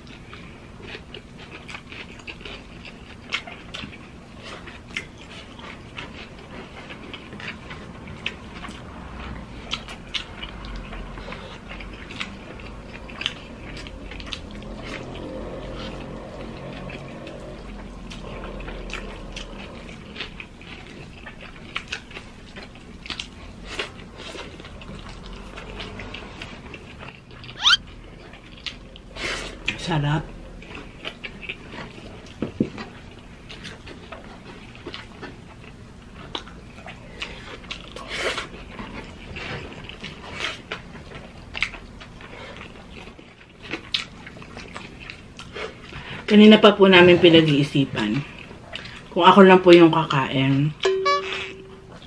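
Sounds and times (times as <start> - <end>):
wet chewing with clicks and smacks: 0.0 - 29.8, 30.6 - 49.1.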